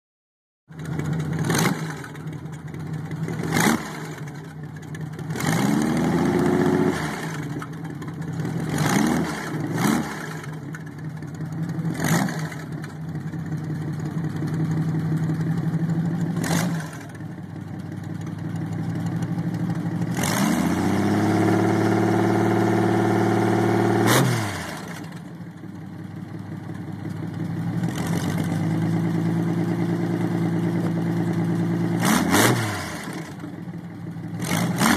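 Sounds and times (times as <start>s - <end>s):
motorcycle engine idling and revving: 0.7s - 34.9s.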